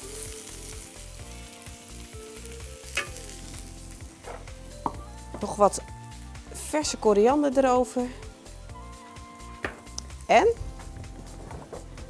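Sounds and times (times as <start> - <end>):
frying hiss: 0.0 - 11.8
soft background music: 0.0 - 12.0.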